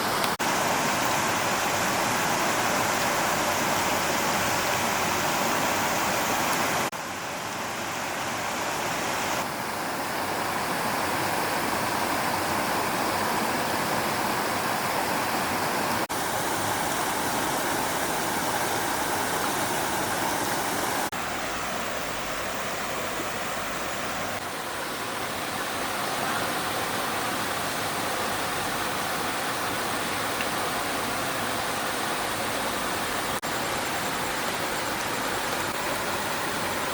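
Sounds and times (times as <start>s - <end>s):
stream water rushing: 0.0s - 36.9s.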